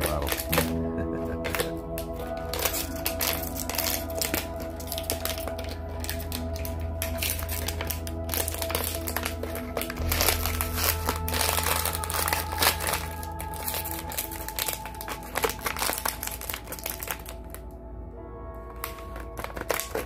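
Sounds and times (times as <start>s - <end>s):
puppy chewing plastic bottle: 0.0s - 17.6s, 18.8s - 20.0s
background music: 0.0s - 20.0s.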